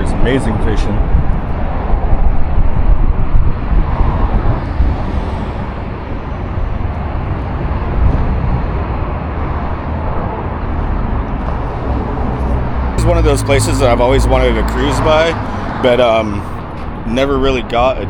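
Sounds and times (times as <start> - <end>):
road traffic passing close: 0.0 - 18.0.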